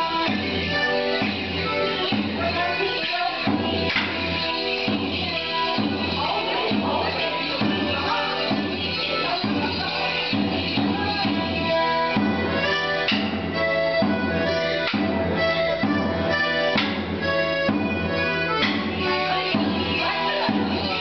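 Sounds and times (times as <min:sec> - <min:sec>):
folk dance tune with reedy tones: 0:00.0 - 0:21.0.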